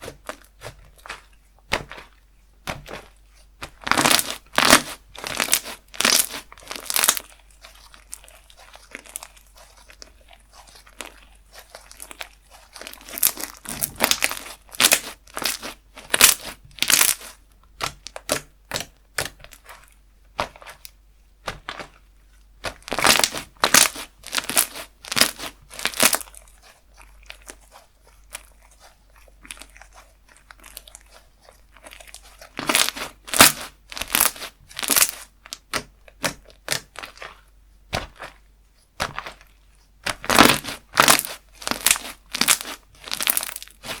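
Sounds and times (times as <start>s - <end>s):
slime crackling and popping: 0.0s - 22.0s, 22.6s - 38.4s, 39.0s - 44.0s.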